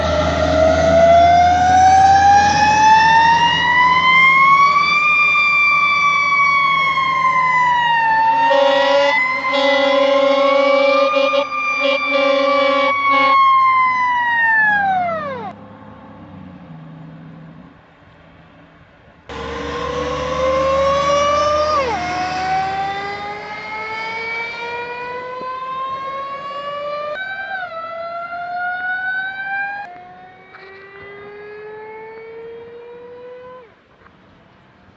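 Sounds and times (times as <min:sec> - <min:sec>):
fire engine sirens wailing: 0:00.0 - 0:15.6, 0:19.3 - 0:33.7.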